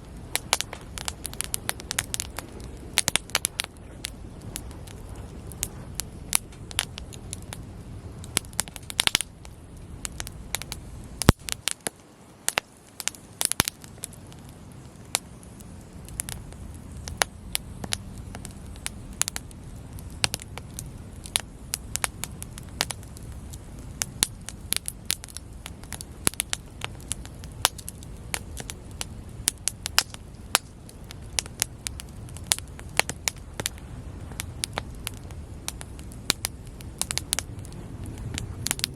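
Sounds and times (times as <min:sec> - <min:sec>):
campfire crackles and pops: 0:00.0 - 0:38.9
low rush of flame: 0:00.0 - 0:38.9.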